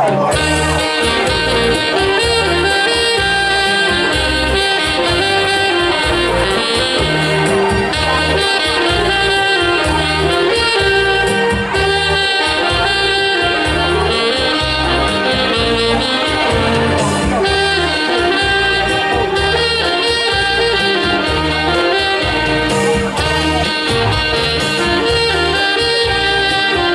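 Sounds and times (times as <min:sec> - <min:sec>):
saxophone ensemble playing folk tune: 0:00.0 - 0:26.9.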